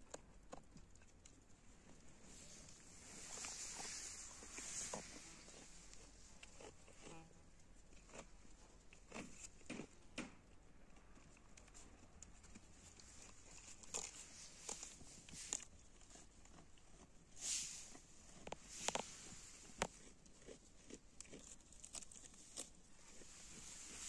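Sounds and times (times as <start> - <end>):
goats tearing grass: 0.1 - 9.9, 11.2 - 24.0.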